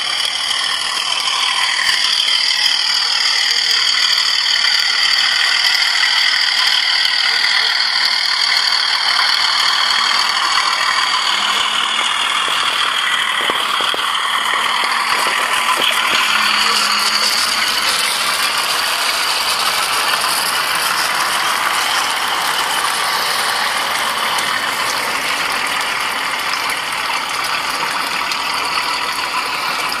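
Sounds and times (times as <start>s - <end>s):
model train motors whirring: 0.0s - 30.0s
wheels clicking over rails: 0.0s - 30.0s.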